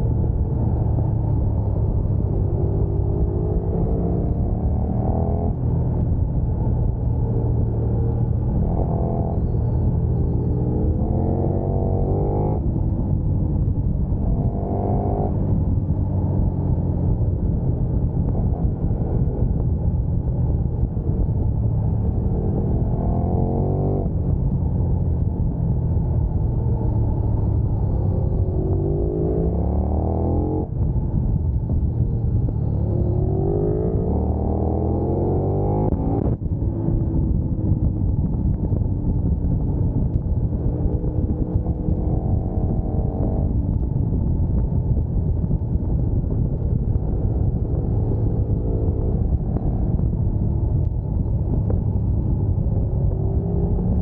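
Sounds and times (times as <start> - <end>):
motorcycle engine accelerating: 0.0 - 54.0
wind rumble on microphone: 0.0 - 54.0.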